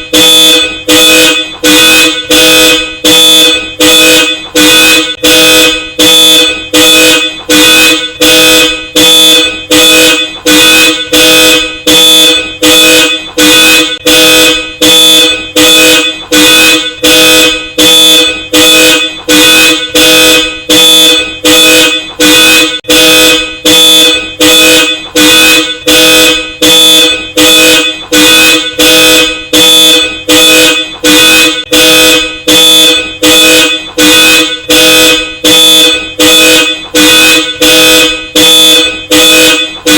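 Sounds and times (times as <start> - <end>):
car alarm honks: 0.0 - 39.9.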